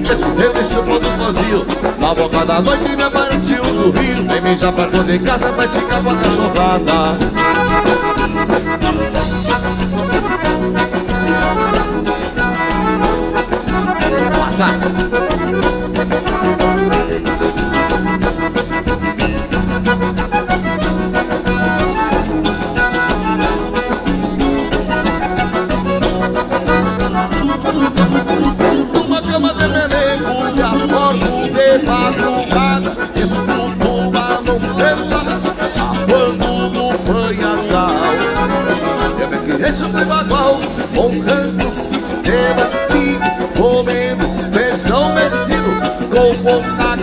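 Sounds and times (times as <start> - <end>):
accordions playing: 0.0 - 47.0
drums with steady beat: 0.0 - 47.0
electric bass: 0.0 - 47.0
guitar: 0.0 - 47.0.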